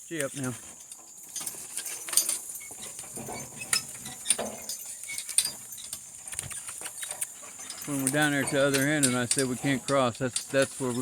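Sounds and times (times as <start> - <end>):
harness and wagon clinking: 0.0 - 11.0.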